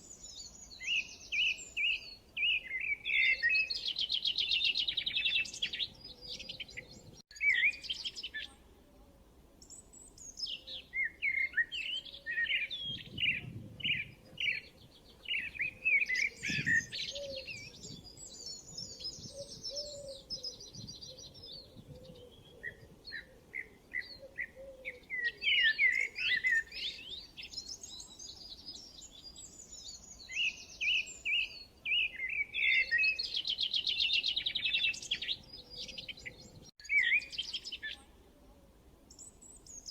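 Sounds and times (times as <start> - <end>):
birds chirping and trilling: 0.0 - 9.0, 9.6 - 38.1.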